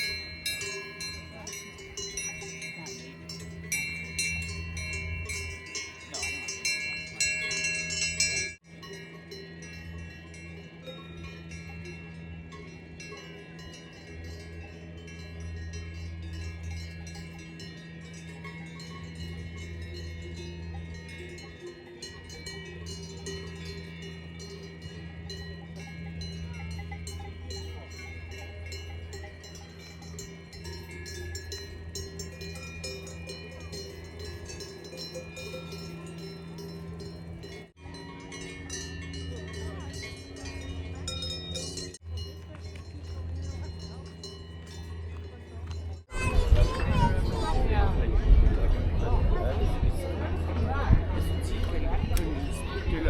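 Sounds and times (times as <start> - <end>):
cowbells jangling: 0.0 - 47.6.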